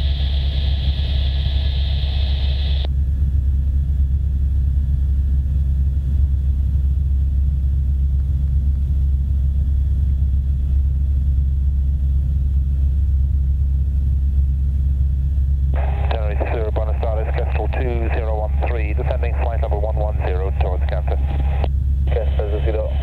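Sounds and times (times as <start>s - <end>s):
helicopter rotor and engine drone: 0.0s - 23.0s.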